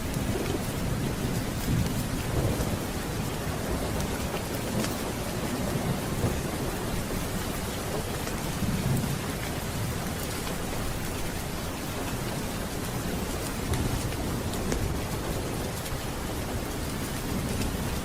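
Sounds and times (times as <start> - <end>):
rolling thunder: 0.0 - 10.2, 12.7 - 18.0
steady heavy rain: 0.0 - 18.0.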